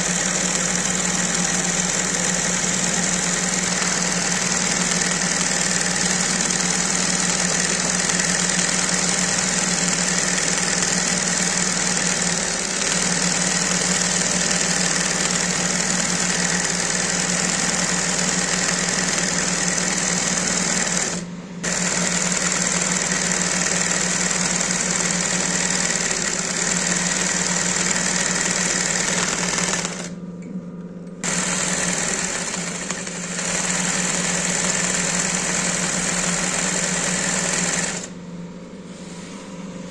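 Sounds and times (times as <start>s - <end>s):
embroidery sewing machine stitching: 0.0s - 30.2s, 31.2s - 38.2s.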